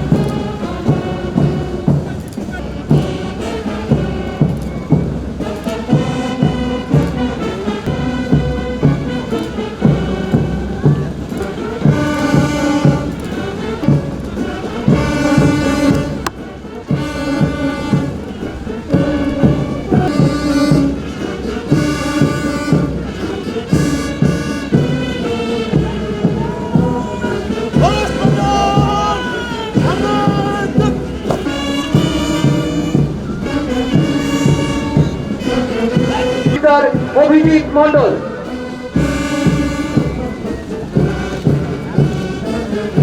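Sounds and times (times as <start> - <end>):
brass band playing a march: 0.0 - 43.0.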